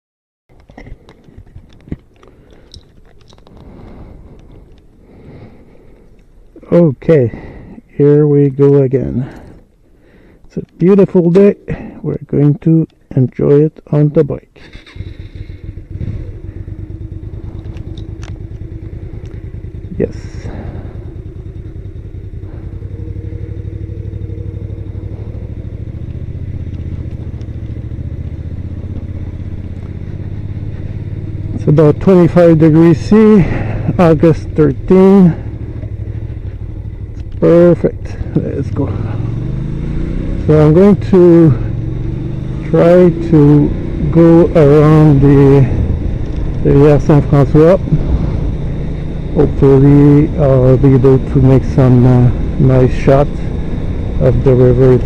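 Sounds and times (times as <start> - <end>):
motorcycle engine running: 0.6 - 7.8, 14.6 - 55.0.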